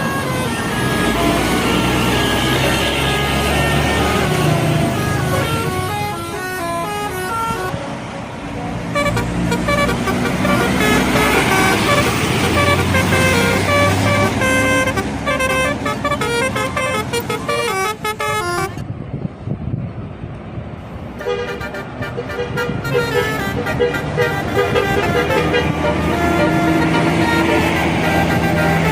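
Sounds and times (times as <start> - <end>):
bus horn playing melody: 0.0 - 7.8, 8.9 - 18.8, 21.2 - 28.9
bus engine rumble: 0.0 - 28.9
road noise: 0.0 - 28.9.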